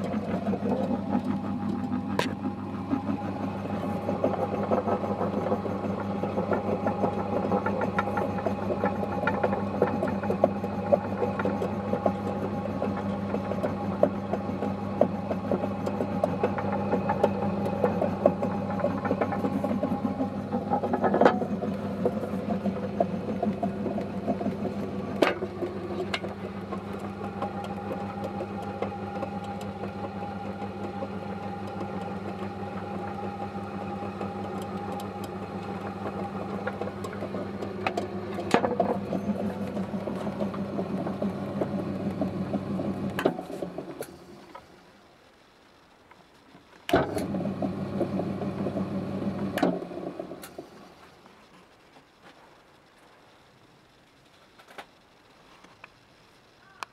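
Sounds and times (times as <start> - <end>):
vegetable slicer motor humming: 0.0 - 44.6, 46.9 - 50.9.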